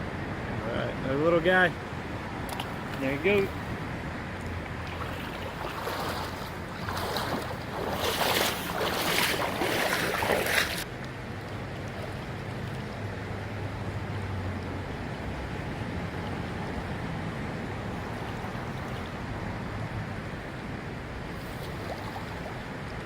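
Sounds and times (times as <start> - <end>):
wind: 0.0 - 23.0
running creek water: 0.1 - 23.0.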